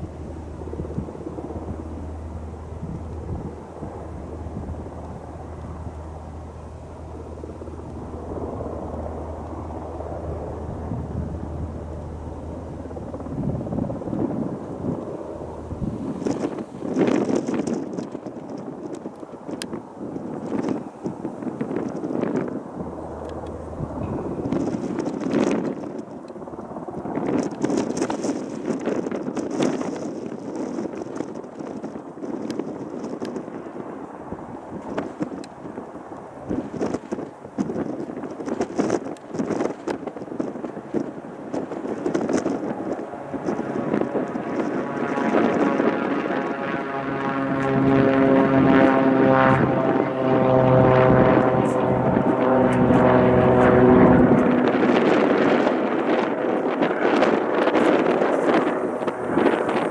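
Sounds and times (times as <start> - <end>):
propeller plane engine droning: 0.0 - 59.9
wind buffeting microphone: 0.0 - 59.9.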